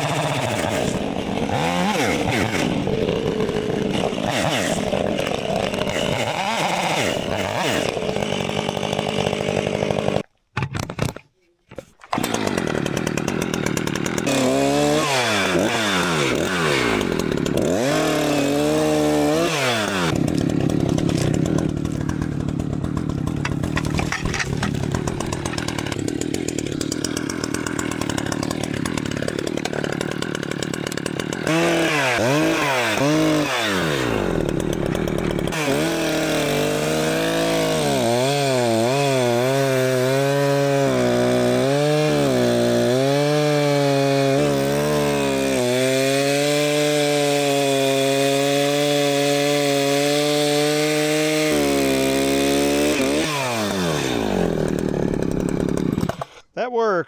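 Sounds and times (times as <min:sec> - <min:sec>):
chainsaw cutting wood: 0:00.0 - 0:11.1, 0:12.0 - 0:56.5.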